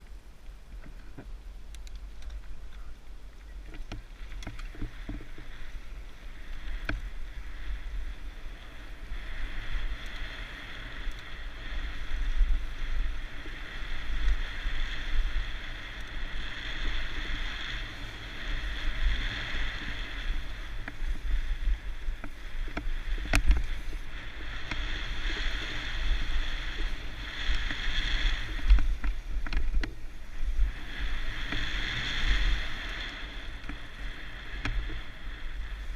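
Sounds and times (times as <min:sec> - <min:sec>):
bike tyres rolling over gravel: 0:00.0 - 0:35.9
wind buffeting microphone: 0:00.0 - 0:35.9
bike rattling over bumps: 0:00.6 - 0:35.9.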